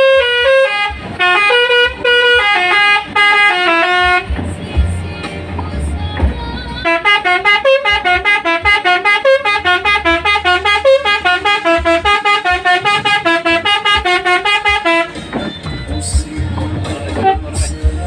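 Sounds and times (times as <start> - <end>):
bus horn playing a melody: 0.0 - 4.6, 6.7 - 17.9.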